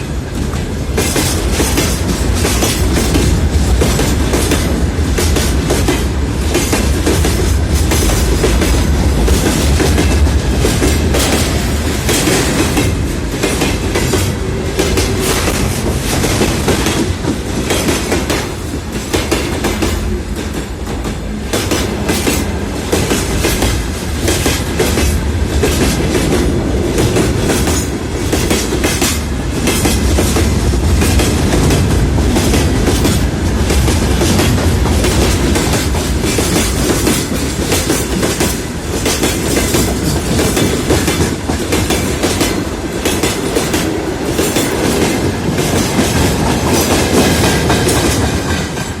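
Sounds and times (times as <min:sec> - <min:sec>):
train wheels clattering over rails: 0:00.0 - 0:49.0.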